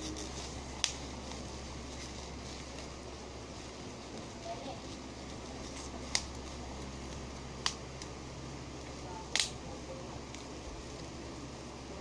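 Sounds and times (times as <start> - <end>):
bubble wrap popping: 0.0 - 8.2, 9.1 - 11.0
steady background hiss: 0.0 - 12.0.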